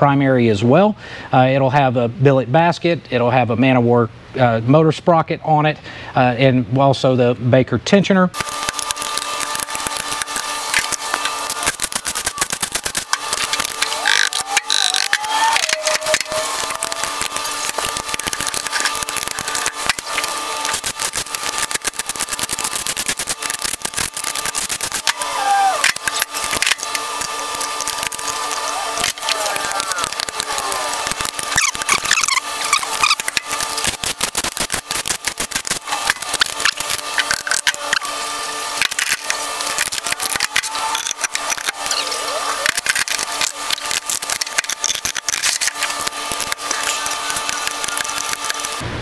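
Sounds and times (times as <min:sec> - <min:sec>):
rapid metallic clicks and rattles: 0:08.4 - 0:38.1, 0:38.8 - 0:48.8
cordless driver spinning bolts: 0:08.4 - 0:48.8.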